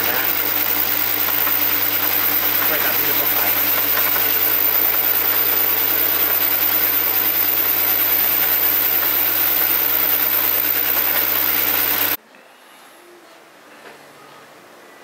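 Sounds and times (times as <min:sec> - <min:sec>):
metal lathe motor hum: 0:00.0 - 0:12.2
parting tool cutting steel: 0:00.0 - 0:12.2.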